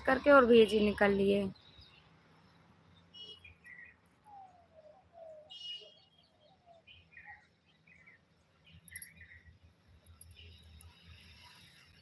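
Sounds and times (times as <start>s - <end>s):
birds chirping faintly: 0.1s - 12.0s.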